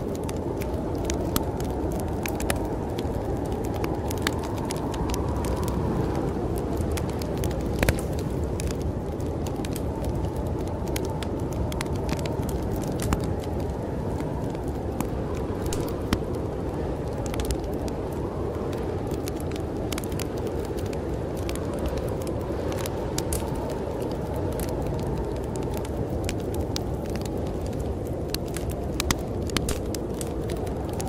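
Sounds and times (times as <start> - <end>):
storm wind rushing: 0.0 - 31.0
wood fire crackling and popping: 0.0 - 31.0.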